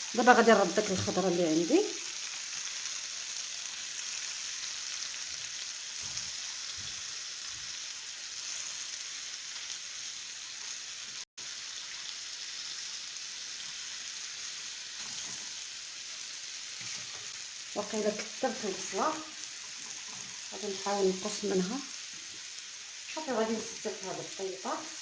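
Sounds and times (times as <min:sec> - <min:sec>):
vegetables sizzling: 0:00.0 - 0:25.0.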